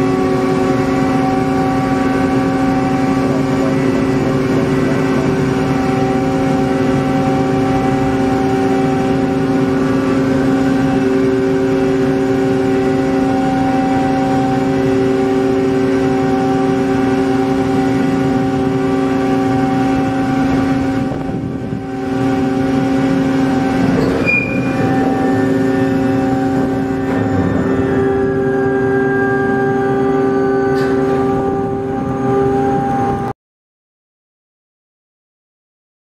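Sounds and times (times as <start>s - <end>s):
ferry engines droning: 0.0s - 33.3s.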